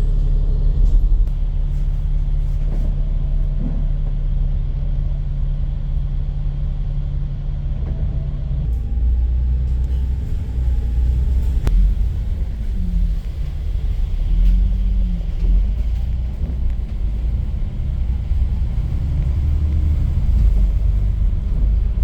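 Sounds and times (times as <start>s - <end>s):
engine hum: 0.0s - 22.0s
vehicle engine rumble: 0.0s - 22.0s.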